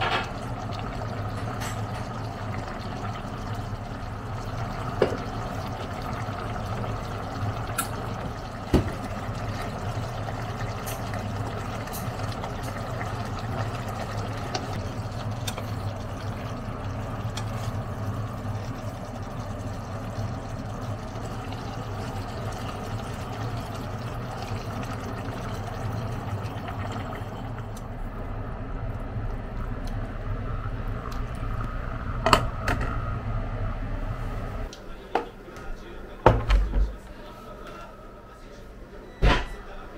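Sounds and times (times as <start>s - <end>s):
food sizzling and bubbling in pot: 0.0s - 34.7s.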